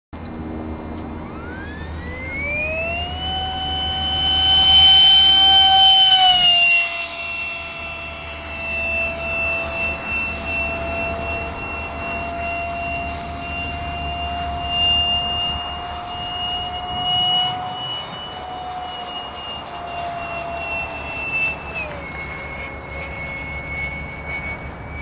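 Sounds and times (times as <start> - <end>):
ducted fan whine: 0.2 - 25.0.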